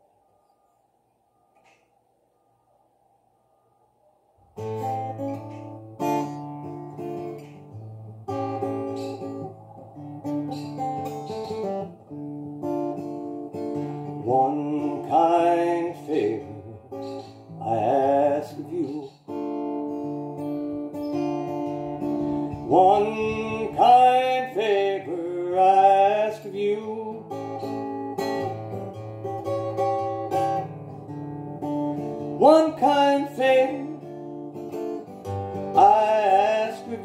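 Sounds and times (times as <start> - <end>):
acoustic guitar blues: 4.6 - 37.0.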